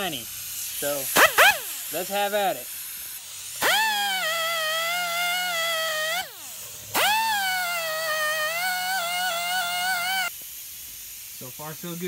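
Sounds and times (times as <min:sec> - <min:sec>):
wire wheel grinder whining: 0:00.0 - 0:10.4.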